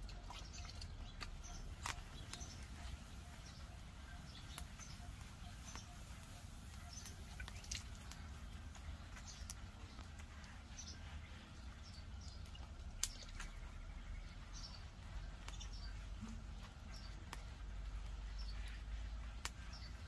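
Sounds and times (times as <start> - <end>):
low steady rumble: 0.0 - 20.0
small birds chirping: 0.0 - 20.0.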